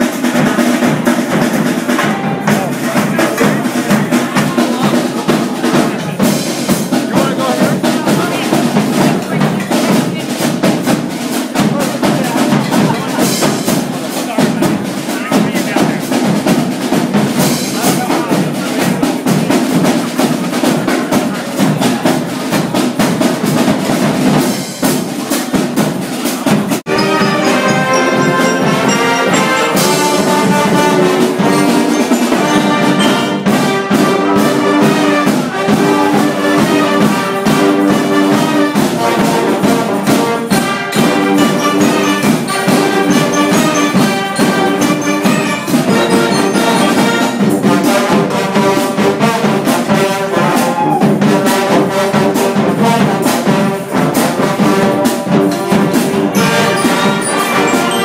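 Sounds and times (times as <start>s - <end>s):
brass band playing: 0.0s - 58.0s
drums: 0.0s - 58.0s.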